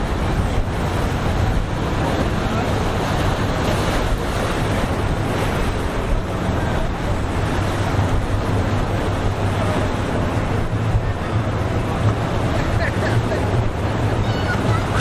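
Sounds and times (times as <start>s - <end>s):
waves in rough water: 0.0s - 15.0s
wind buffeting microphone: 0.0s - 15.0s.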